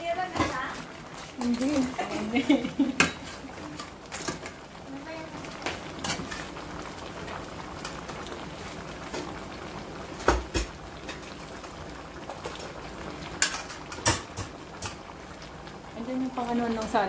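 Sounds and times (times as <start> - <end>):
pot bubbling: 0.0 - 17.0.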